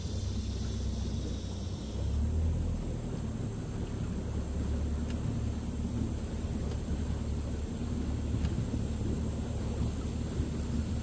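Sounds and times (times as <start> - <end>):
outboard motor rumbling: 0.0 - 11.0.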